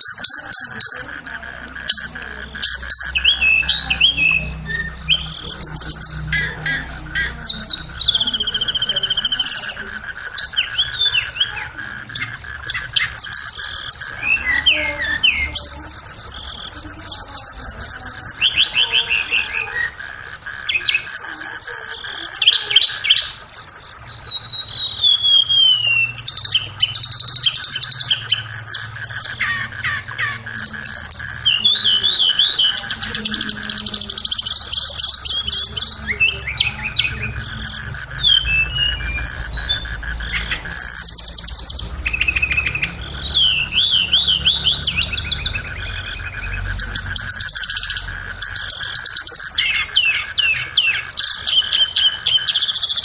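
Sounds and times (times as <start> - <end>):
bird song with fast trills: 0.0 - 53.0.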